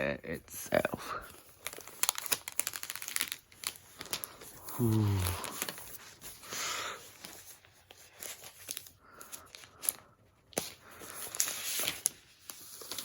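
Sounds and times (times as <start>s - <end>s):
packaging rustling and tearing: 1.3s - 13.0s.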